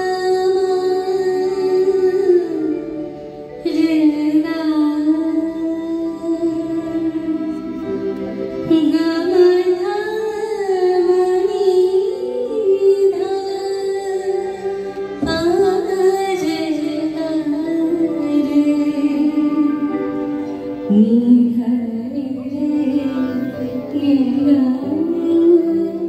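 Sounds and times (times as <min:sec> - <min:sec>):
harmonium: 0:00.0 - 0:26.0
keyboard: 0:00.0 - 0:26.0
violin: 0:00.0 - 0:26.0.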